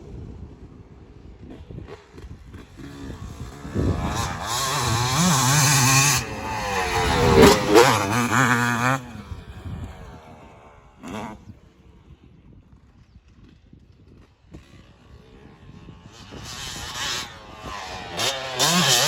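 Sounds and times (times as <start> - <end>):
dirt bike engines revving: 1.0 - 19.0.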